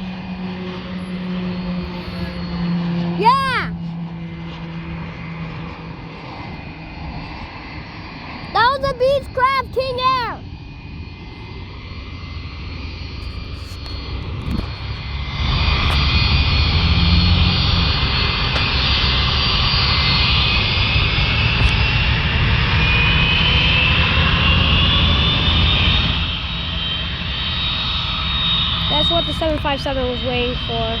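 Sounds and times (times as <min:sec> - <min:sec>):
aircraft turbine engines whining: 0:00.0 - 0:31.0.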